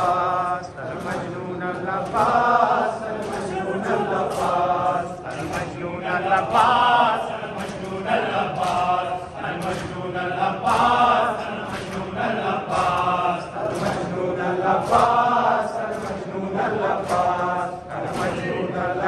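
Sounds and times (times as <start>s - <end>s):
men chanting a lament: 0.0s - 19.0s
hands beating chests: 0.9s - 17.4s.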